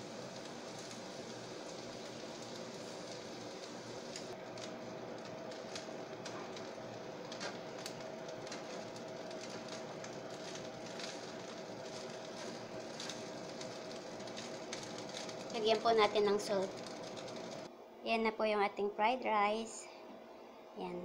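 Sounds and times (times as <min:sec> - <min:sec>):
rice sizzling in a wok: 0:00.0 - 0:17.7.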